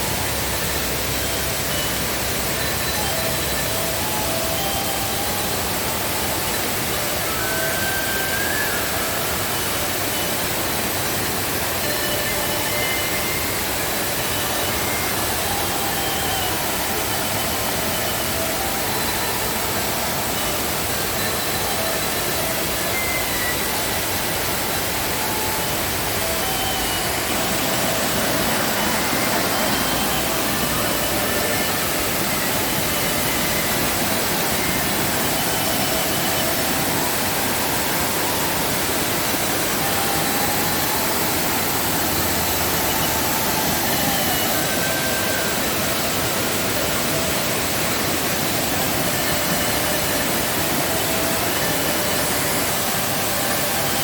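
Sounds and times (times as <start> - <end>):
waterfall roaring: 0.0 - 54.0
faint whistled notes: 0.2 - 54.0.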